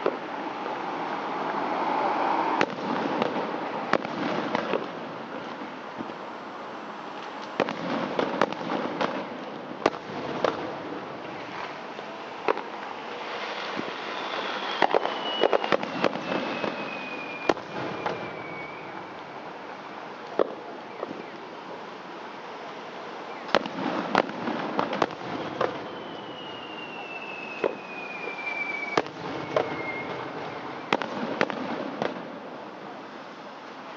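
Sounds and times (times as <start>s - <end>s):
fireworks bangs: 0.0s - 6.2s, 7.2s - 21.9s, 23.4s - 33.0s
fireworks crackling: 0.0s - 33.9s.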